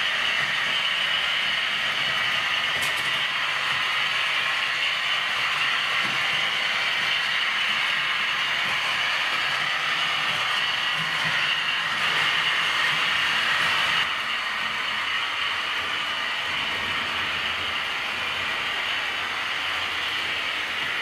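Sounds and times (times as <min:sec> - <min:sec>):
model train motor whirring: 0:00.0 - 0:21.0.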